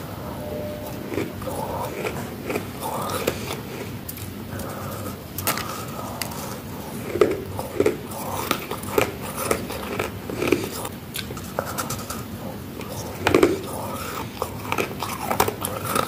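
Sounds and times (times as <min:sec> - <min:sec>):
person crunching frost: 0:00.8 - 0:16.0.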